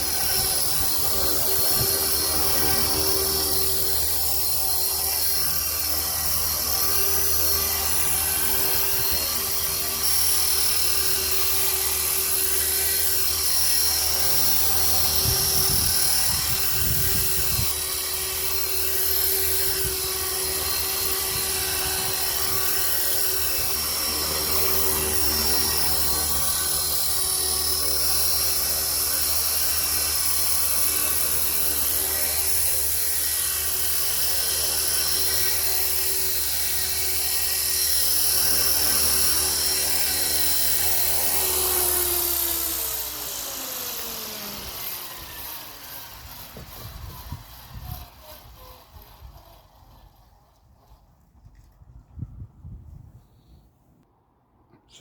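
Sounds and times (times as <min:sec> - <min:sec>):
rc helicopter whine: 0:00.0 - 0:51.7.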